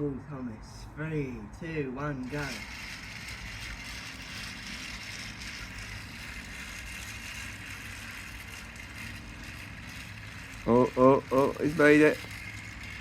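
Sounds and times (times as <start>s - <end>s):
toy train motor whirring: 2.0s - 13.0s.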